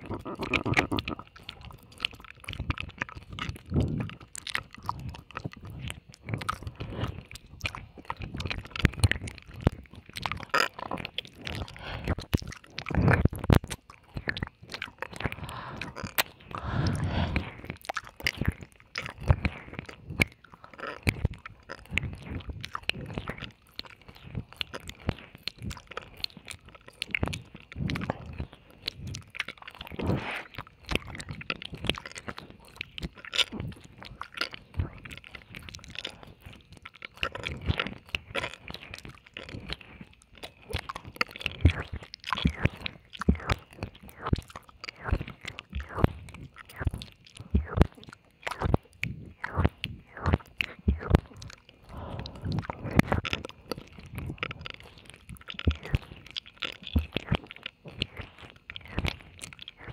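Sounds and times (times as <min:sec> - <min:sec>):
tongue clicks: 0:00.0 - 0:59.9
wet mouth licking sounds: 0:00.0 - 0:59.9.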